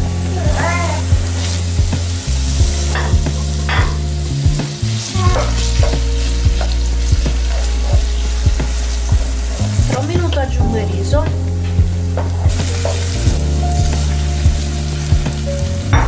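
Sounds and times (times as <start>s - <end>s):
onion sizzling in oil: 0.1s - 9.8s, 11.5s - 16.0s.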